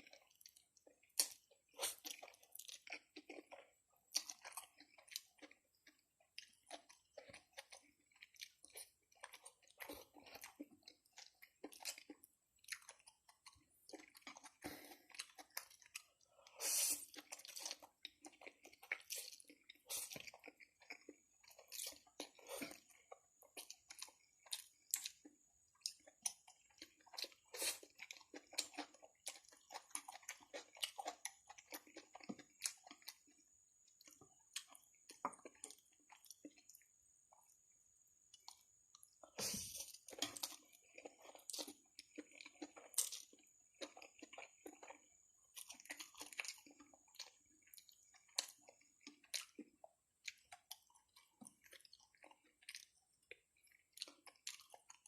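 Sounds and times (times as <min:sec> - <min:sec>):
person chewing noodles: 0:00.0 - 0:55.0.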